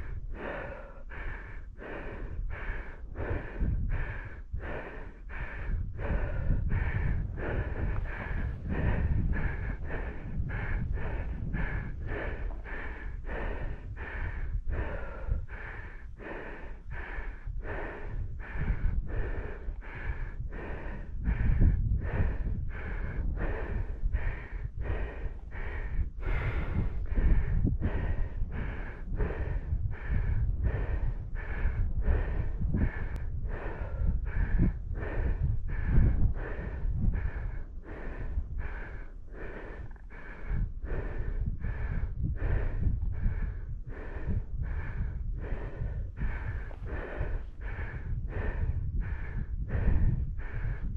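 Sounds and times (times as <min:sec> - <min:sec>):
person breathing hard: 0:00.0 - 0:50.9
wind rumble on microphone: 0:00.0 - 0:50.9.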